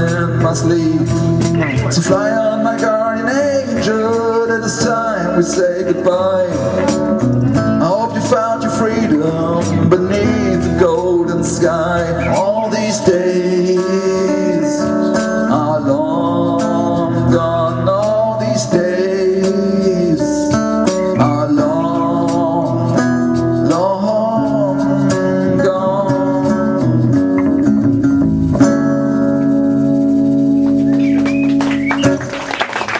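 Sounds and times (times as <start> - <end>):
strummed acoustic guitars: 0.0 - 32.9.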